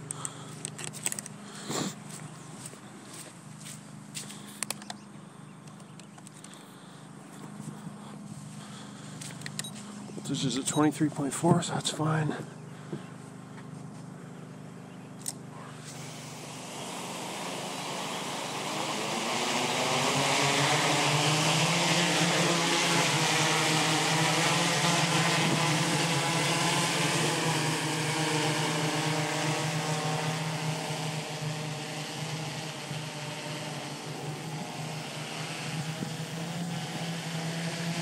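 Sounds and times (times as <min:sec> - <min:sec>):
drone propeller hum: 0:00.0 - 0:38.0.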